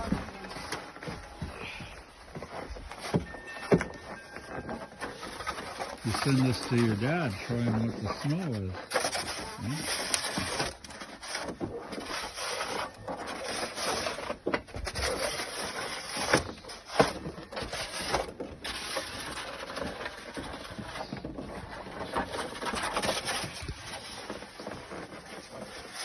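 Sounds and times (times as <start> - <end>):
snow shovel scraping snow: 0.0 - 26.0.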